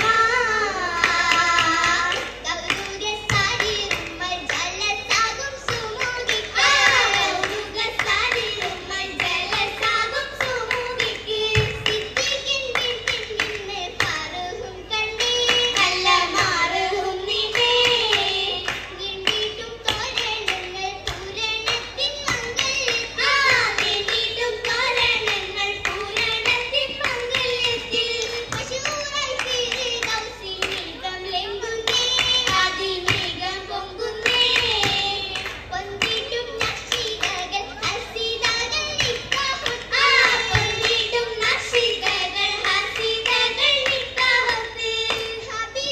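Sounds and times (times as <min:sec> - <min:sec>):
rhythmic hand clapping: 0:00.0 - 0:45.9.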